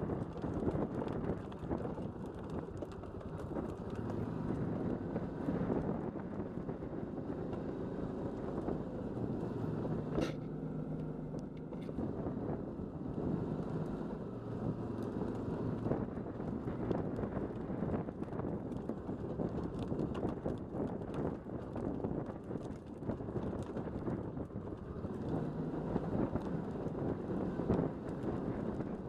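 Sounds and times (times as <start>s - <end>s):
atv engine running at low revs: 0.0s - 29.0s
vehicle rattling over rough ground: 0.0s - 29.0s.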